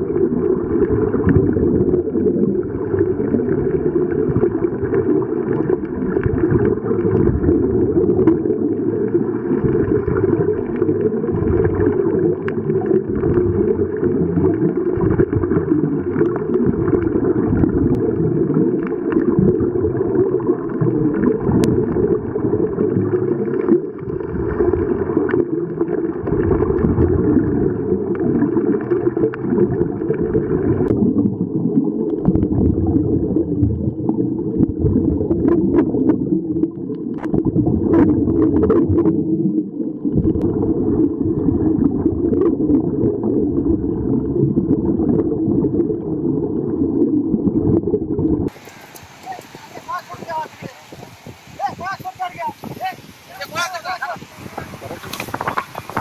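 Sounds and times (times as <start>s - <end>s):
muffled underwater noise: 0.0s - 56.0s
regulator bubbles gurgling: 0.0s - 56.0s.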